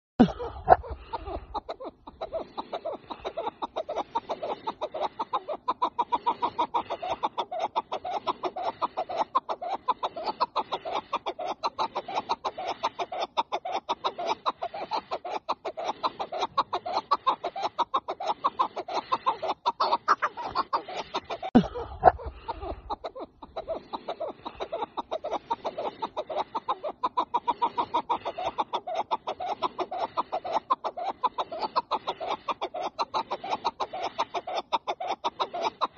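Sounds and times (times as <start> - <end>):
partridge clucking calls: 0.2 - 35.9.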